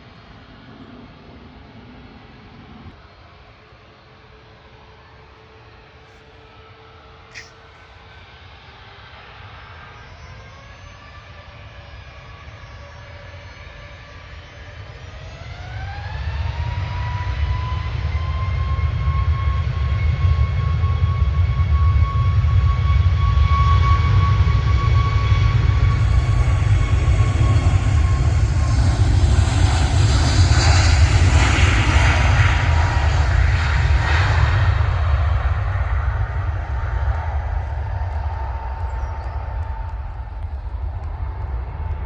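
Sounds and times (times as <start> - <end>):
jet engine rumble and roar: 0.0 - 42.0
jet engine whine: 0.0 - 42.0.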